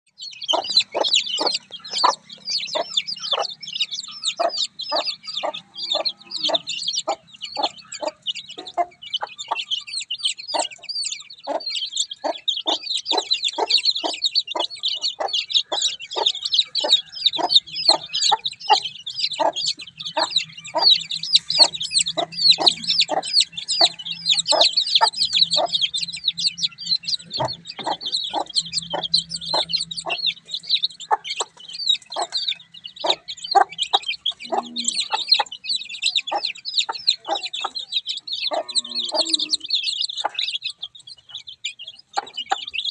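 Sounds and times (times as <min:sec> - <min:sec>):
chicks peeping: 0:00.1 - 0:42.9
hen clucking: 0:00.2 - 0:42.9.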